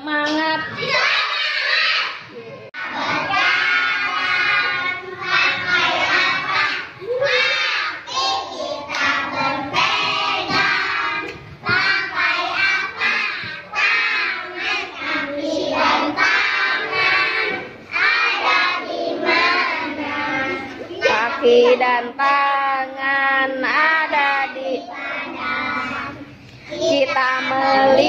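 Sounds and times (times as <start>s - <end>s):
children singing in unison: 0.7s - 22.2s, 23.6s - 28.0s.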